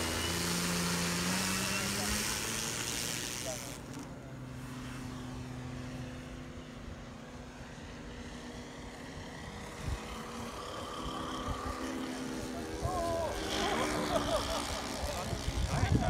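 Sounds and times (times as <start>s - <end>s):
model plane propeller engines droning: 0.0s - 16.0s.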